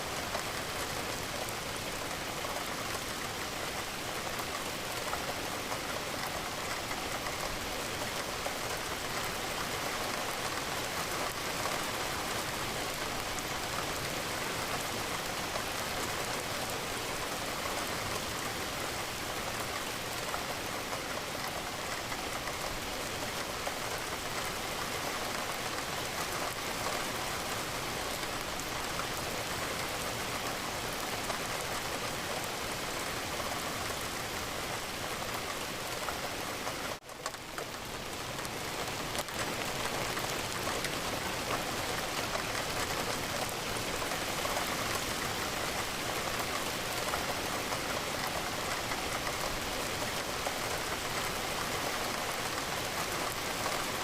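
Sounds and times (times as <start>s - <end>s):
rain pattering against a window: 0.0s - 54.0s.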